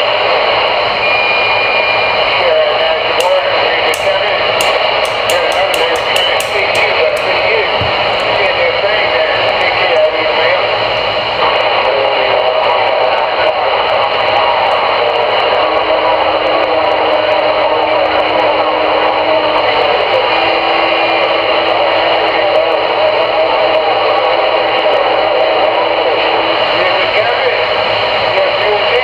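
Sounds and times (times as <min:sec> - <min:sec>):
cb radio static: 0:00.0 - 0:29.0.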